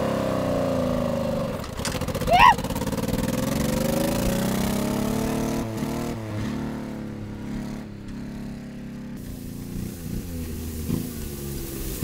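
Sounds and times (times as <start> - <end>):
small truck engine revving: 0.0 - 8.6, 9.2 - 12.0.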